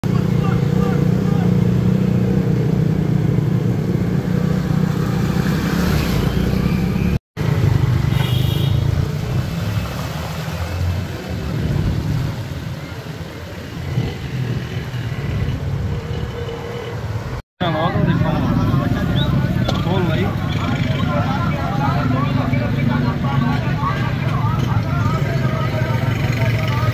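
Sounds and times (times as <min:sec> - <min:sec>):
street traffic: 0:00.0 - 0:26.9.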